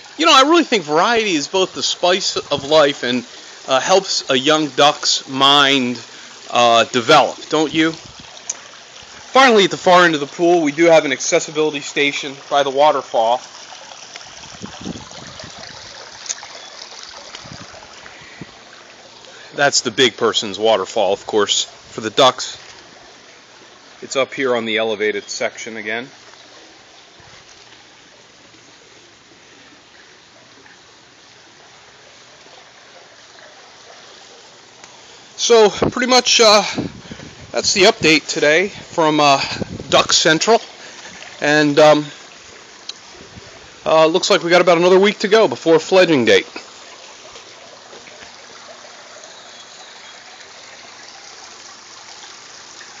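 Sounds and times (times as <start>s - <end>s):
water trickling over stones: 0.0s - 53.0s.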